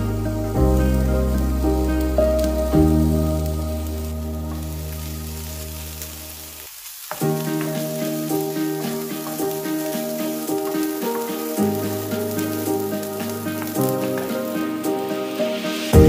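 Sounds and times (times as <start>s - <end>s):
background music with held notes: 0.0s - 6.4s, 7.2s - 16.0s
onions and garlic sizzling in pan: 0.0s - 16.0s.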